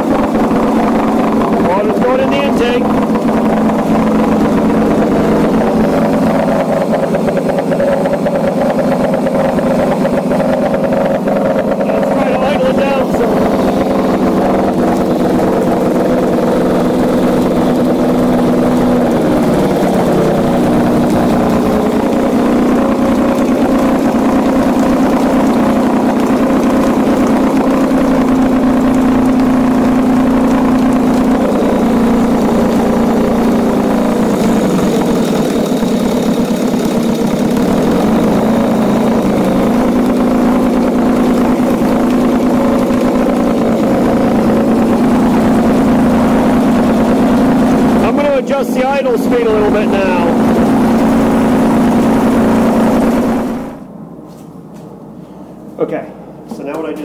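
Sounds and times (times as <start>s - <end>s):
propeller churning water: 0.0s - 53.9s
outboard motor running: 0.0s - 54.0s.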